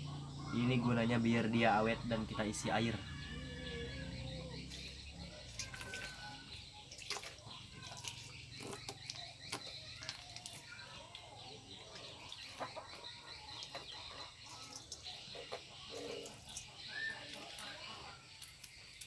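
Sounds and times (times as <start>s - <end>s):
bird and fowl calls: 0.0s - 18.9s.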